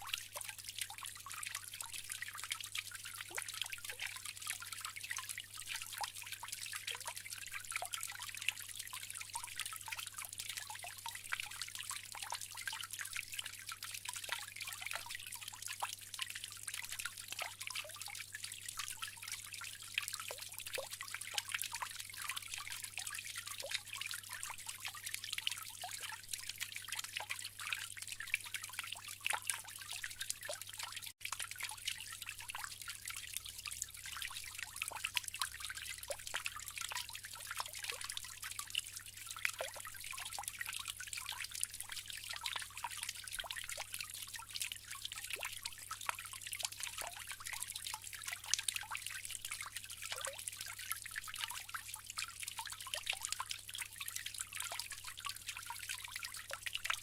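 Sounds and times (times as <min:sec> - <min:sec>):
water drips and splashes: 0:00.0 - 0:57.0
water fountain trickling: 0:00.0 - 0:57.0.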